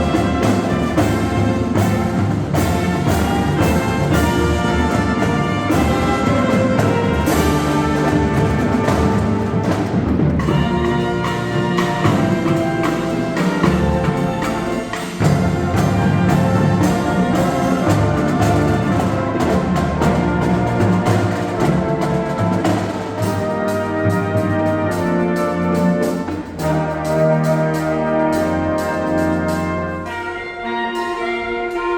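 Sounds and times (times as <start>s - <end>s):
marching drums beat: 0.0s - 30.1s
brass chords with trumpets: 0.0s - 31.9s.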